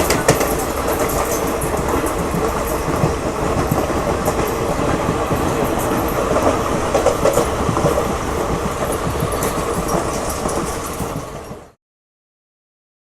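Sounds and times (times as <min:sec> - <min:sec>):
train wheels rumbling on rails: 0:00.0 - 0:11.8
wheels clicking over rail joints: 0:00.0 - 0:11.8.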